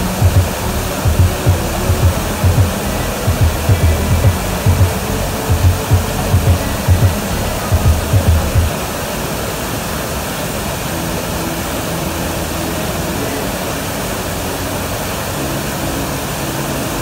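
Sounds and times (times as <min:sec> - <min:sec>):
waterfall rushing onto boulders: 0:00.0 - 0:17.0.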